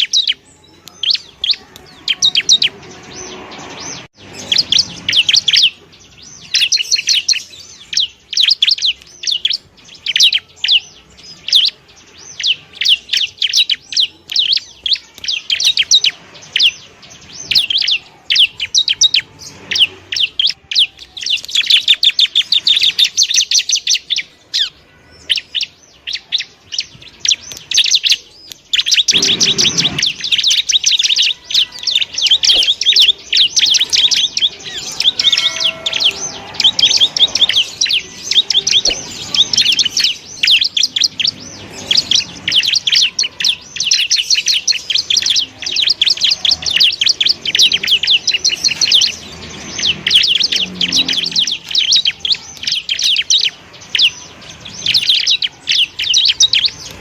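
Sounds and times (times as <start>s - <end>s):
bird singing high chirps: 0.0s - 57.0s.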